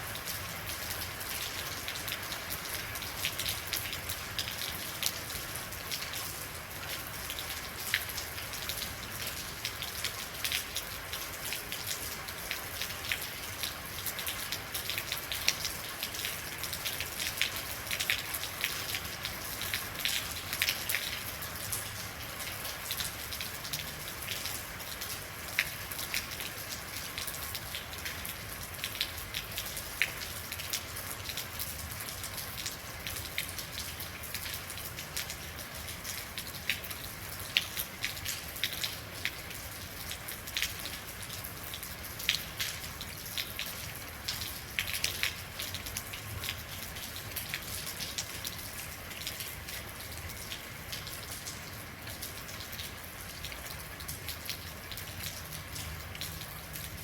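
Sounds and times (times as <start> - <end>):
rain drops ticking on hard surface: 0.0 - 57.0.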